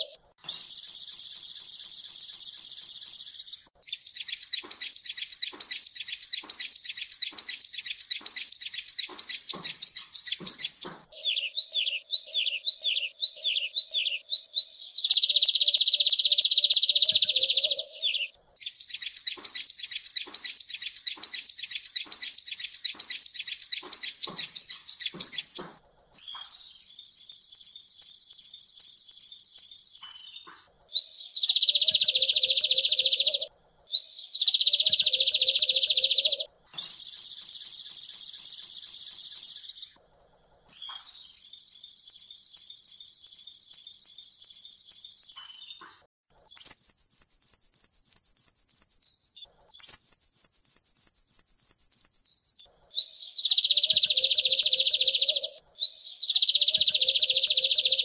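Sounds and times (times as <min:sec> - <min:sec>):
bird song trills: 0:00.0 - 0:58.0.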